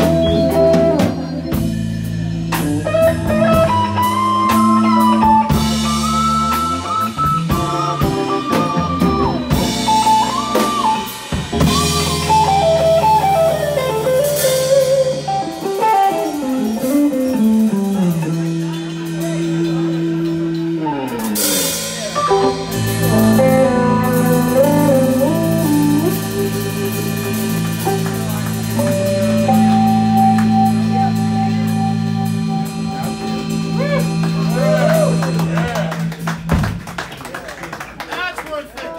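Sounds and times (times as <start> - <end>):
electric guitar lead: 0.0 - 37.2
bass guitar: 0.0 - 37.4
drums: 0.0 - 38.9
organ chord: 3.4 - 20.7, 21.4 - 36.5.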